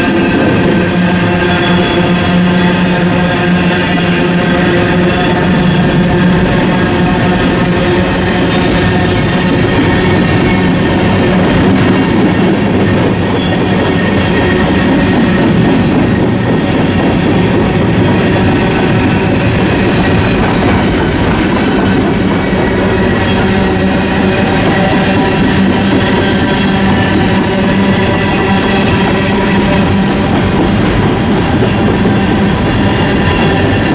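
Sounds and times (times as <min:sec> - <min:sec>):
locomotive horn tones: 0:00.0 - 0:16.8, 0:17.5 - 0:33.9
train rumbling past: 0:00.0 - 0:33.9.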